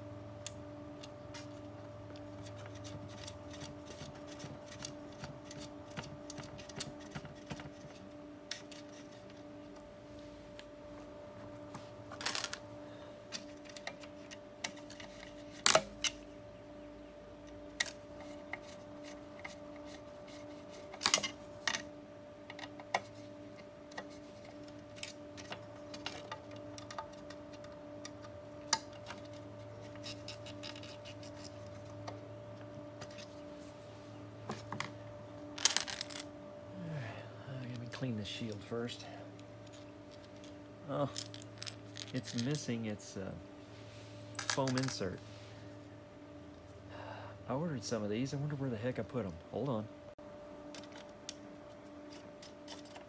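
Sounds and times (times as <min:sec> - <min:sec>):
faint hum: 0:00.0 - 0:53.0.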